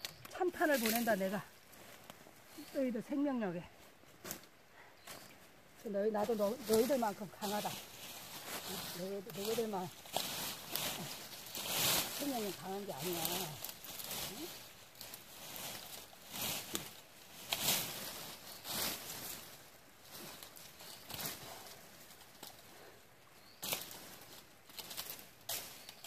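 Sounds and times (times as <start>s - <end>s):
dry brush rustling and crackling: 0.0s - 26.0s.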